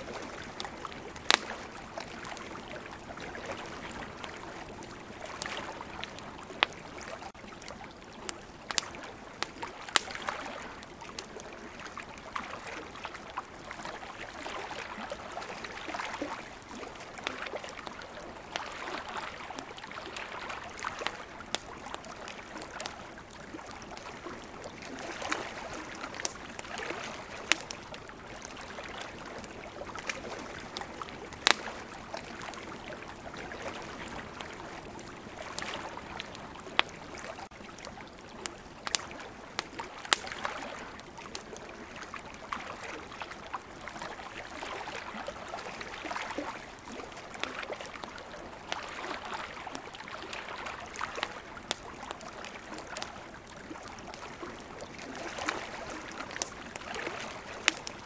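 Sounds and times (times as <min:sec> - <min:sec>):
ocean waves: 0:00.0 - 0:07.3, 0:08.6 - 0:38.0, 0:39.2 - 0:58.0
campfire crackling and popping: 0:00.0 - 0:58.0.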